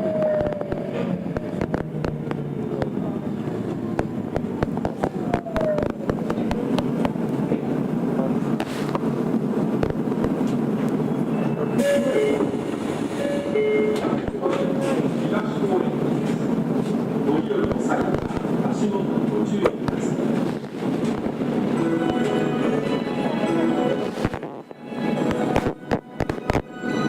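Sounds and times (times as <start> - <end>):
rail joint clicks: 0.0 - 22.5
wheel and rail rumble: 0.0 - 27.0.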